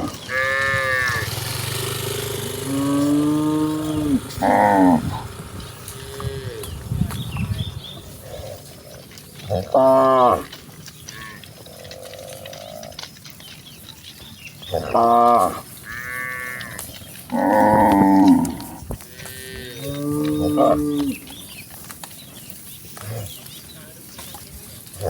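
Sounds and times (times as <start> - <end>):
cows mooing: 0.0 - 13.2, 14.6 - 21.6.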